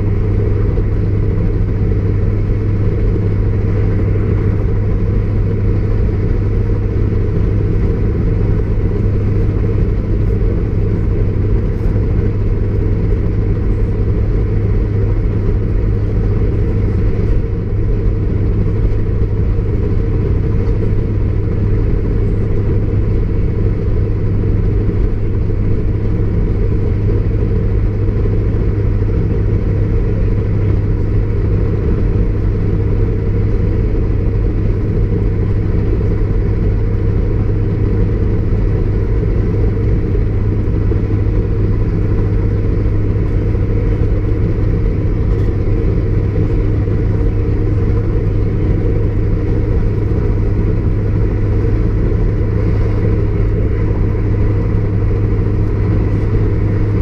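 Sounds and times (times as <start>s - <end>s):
diesel engine drone: 0.0s - 57.0s
wheels rumbling on rail: 0.0s - 57.0s.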